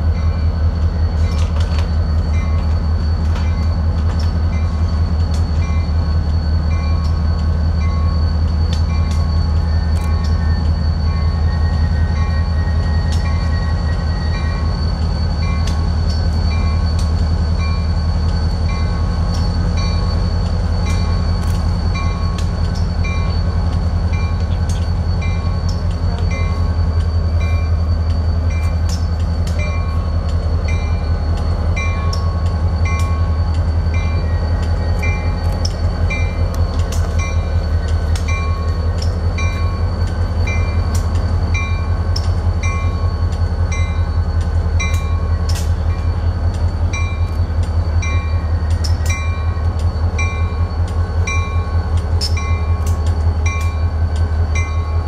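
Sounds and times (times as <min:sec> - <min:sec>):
locomotive bell ringing: 0:00.0 - 0:55.0
locomotive engine rumbling: 0:00.0 - 0:55.0.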